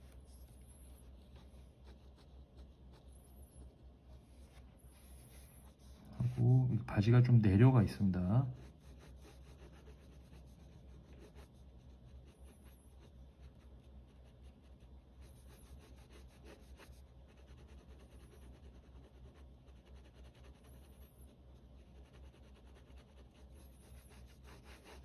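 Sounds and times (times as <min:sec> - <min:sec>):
pen scratching on paper: 0:00.0 - 0:06.6, 0:08.6 - 0:25.0
steady low hum: 0:00.0 - 0:25.0.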